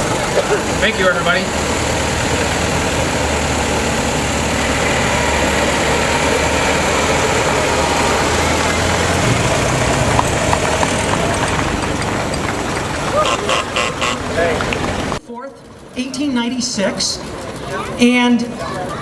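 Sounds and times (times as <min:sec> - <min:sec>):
old car engines running: 0:00.0 - 0:19.0.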